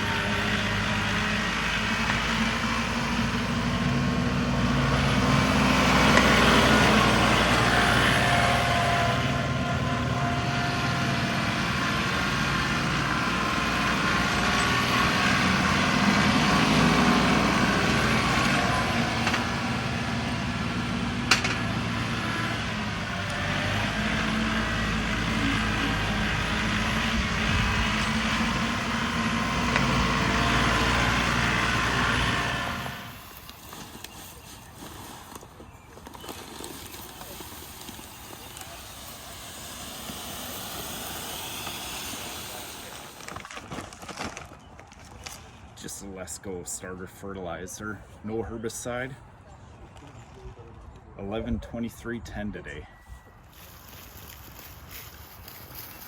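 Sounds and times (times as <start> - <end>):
tractor diesel engine running: 0.0 - 49.9, 50.9 - 56.0.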